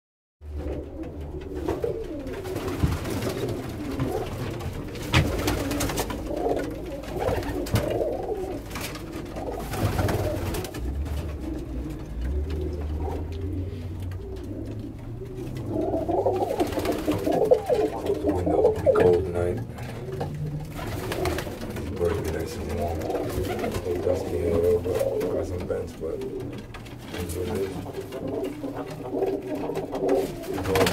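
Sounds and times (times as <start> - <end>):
pigeons cooing: 0.5 - 30.9.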